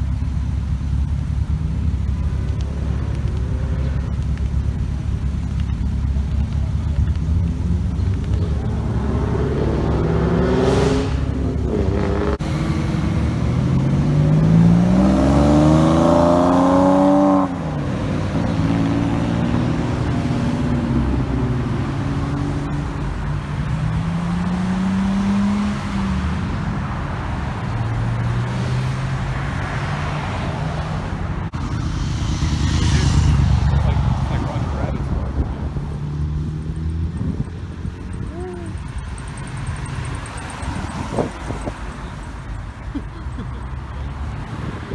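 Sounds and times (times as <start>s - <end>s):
car engines accelerating: 0.0s - 44.9s.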